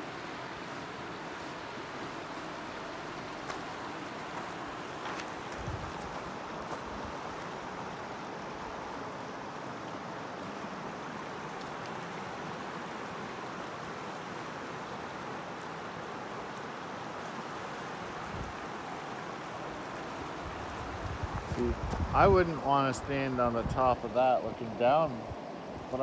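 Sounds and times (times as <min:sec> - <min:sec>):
fast-flowing water rushing: 0:00.0 - 0:26.0.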